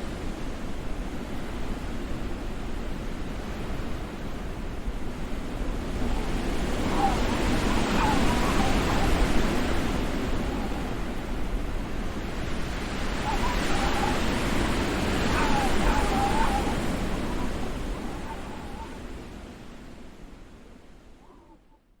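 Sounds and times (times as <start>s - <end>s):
rushing wind: 0.0s - 21.6s.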